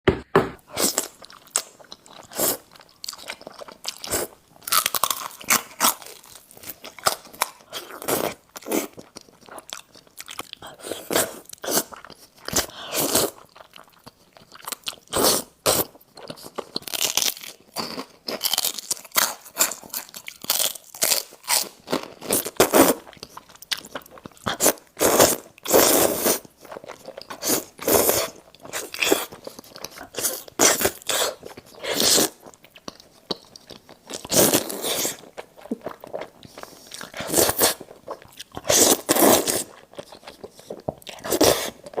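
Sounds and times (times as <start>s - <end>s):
person chewing crunchy food: 0.6s - 42.0s.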